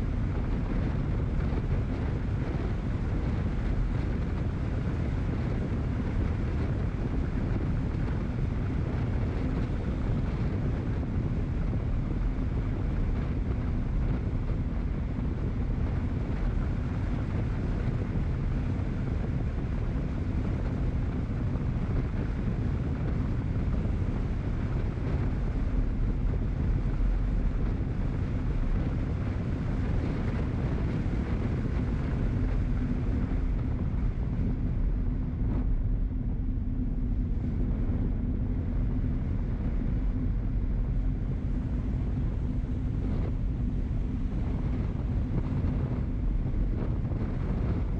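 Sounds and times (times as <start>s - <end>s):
low even rumble: 0.0s - 47.9s
wind buffeting microphone: 0.0s - 47.9s.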